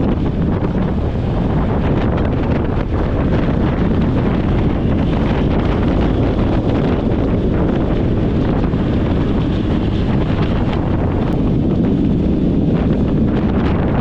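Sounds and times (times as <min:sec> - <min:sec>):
engine and road noise drone: 0:00.0 - 0:14.0
wind rushing over microphone: 0:00.0 - 0:14.0.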